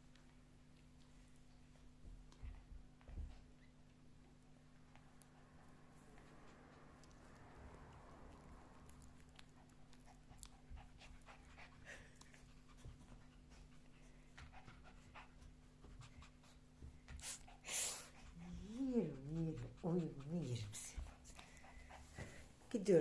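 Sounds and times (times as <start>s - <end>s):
dog panting: 4.3s - 23.0s.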